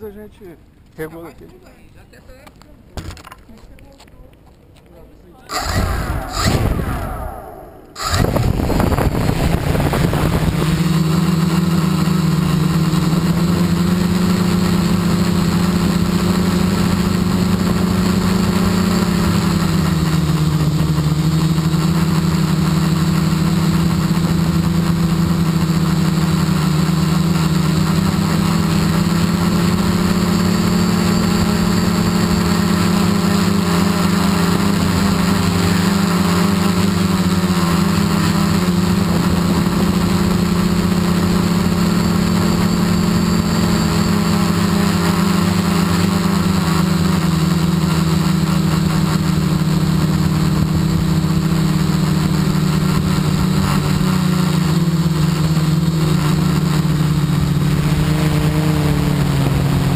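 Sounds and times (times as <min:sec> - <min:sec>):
drone motors and propellers humming: 0:05.4 - 0:59.9.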